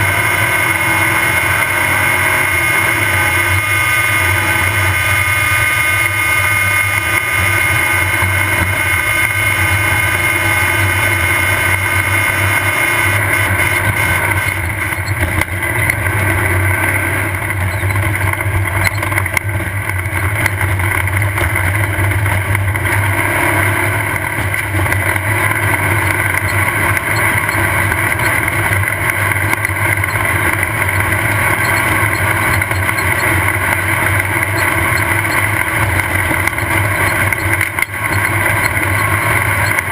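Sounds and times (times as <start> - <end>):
race buggy engine running hard: 0.0 - 39.9
rush of noise: 0.0 - 39.9.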